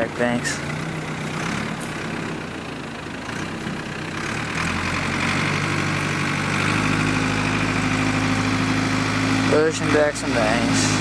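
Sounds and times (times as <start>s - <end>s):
diesel backhoe engine running: 0.0s - 11.0s.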